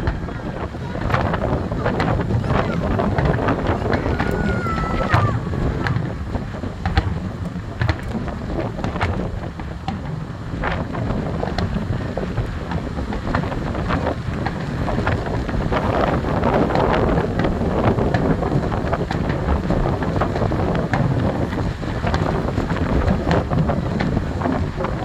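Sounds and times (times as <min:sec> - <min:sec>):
fireworks bangs and crackles: 0:00.0 - 0:25.0
wind buffeting microphone: 0:00.0 - 0:25.0.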